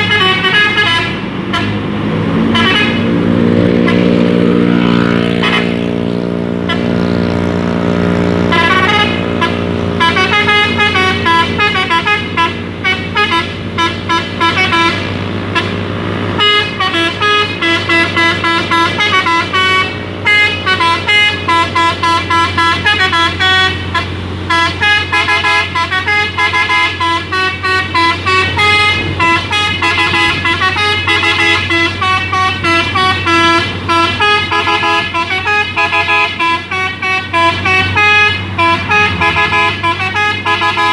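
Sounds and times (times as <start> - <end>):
truck musical horn melody: 0.0 - 40.9.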